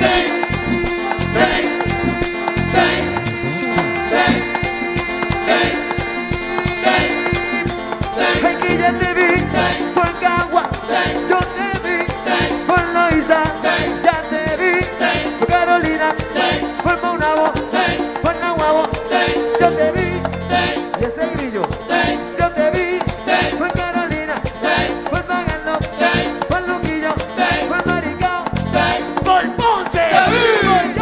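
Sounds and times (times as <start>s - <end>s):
live merengue band music: 0.0s - 31.0s.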